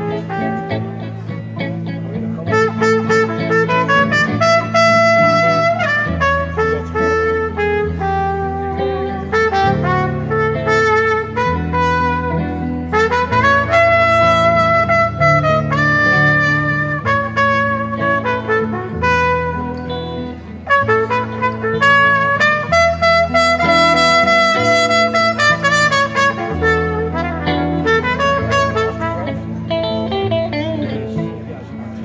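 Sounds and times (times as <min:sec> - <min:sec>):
trumpet holding notes: 0:00.0 - 0:01.4, 0:02.4 - 0:30.2
electric guitars: 0:00.0 - 0:32.0.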